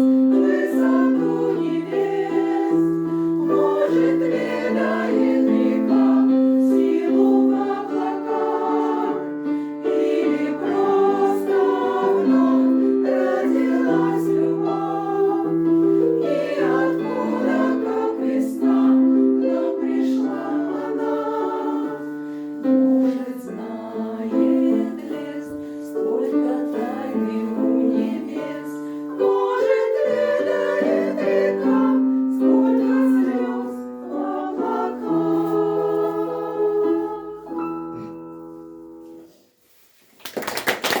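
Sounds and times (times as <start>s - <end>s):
choir singing in harmony: 0.0s - 38.6s.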